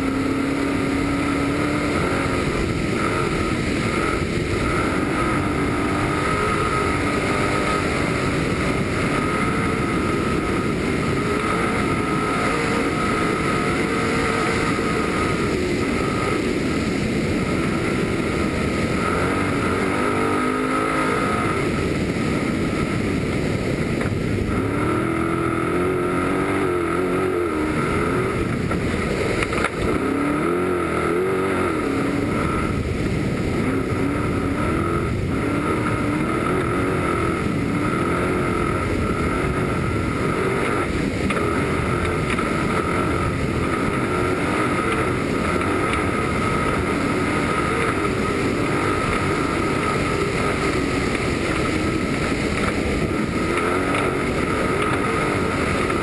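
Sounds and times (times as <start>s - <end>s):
truck engine racing: 0.0s - 56.0s
wind and road noise: 0.0s - 56.0s.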